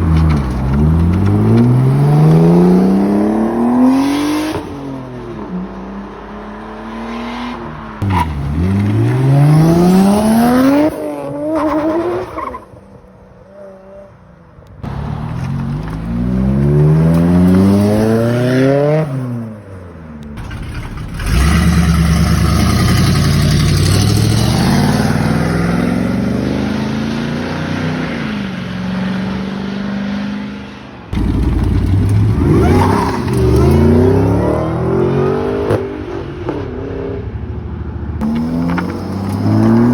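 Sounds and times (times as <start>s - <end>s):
car engines revving: 0.0s - 12.8s, 14.7s - 39.9s.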